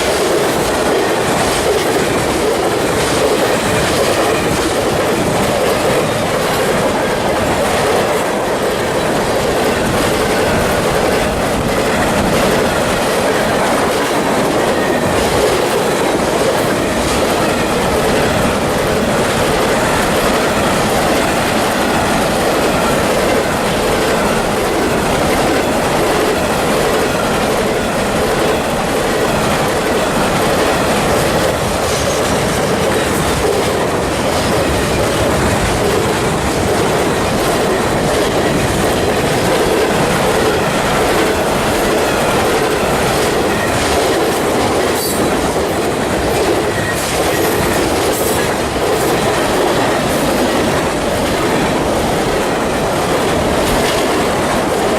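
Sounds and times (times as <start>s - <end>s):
train wheels clattering over rails: 0.0s - 54.9s.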